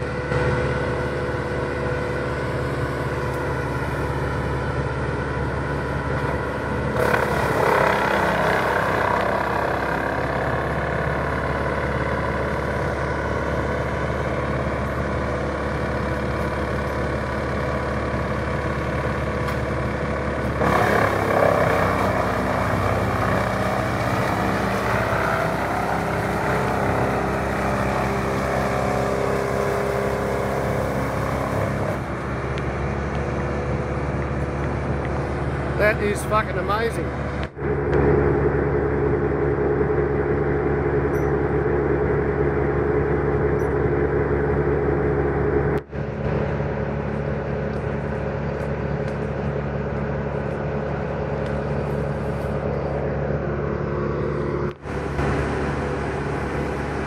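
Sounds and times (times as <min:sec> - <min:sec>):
woodchipper engine running: 0:00.0 - 0:57.0.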